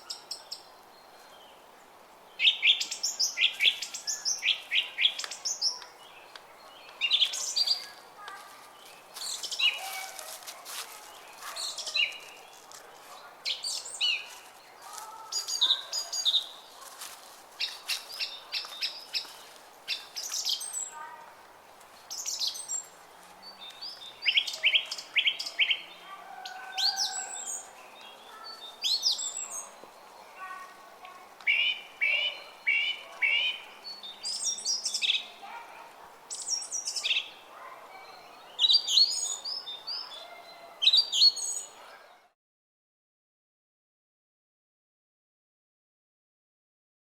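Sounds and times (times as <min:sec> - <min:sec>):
songbirds chirping and trilling: 0:00.0 - 0:42.3.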